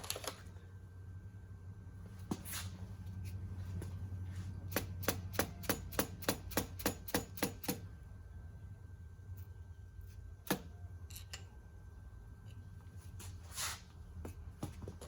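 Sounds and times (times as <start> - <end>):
low hum: 0.4 - 5.9, 7.8 - 14.6.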